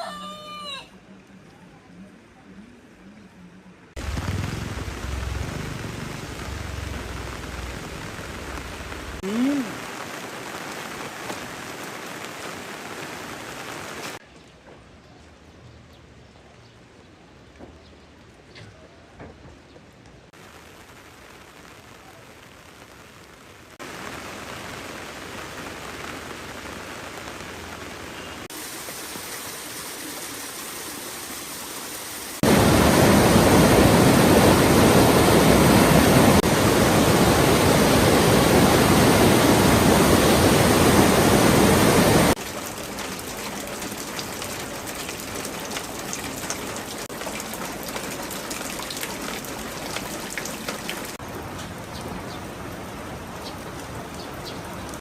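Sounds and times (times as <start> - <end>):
rain falling: 3.9 - 14.2, 19.9 - 55.0.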